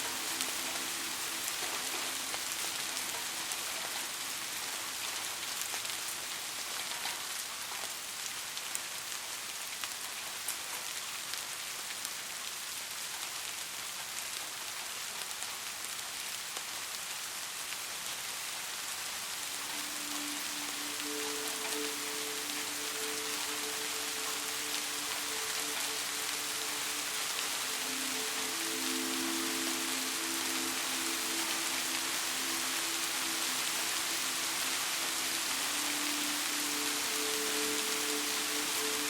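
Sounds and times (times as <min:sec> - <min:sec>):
raindrops ticking close by: 0:00.0 - 0:39.0
steady rainfall: 0:00.0 - 0:39.0.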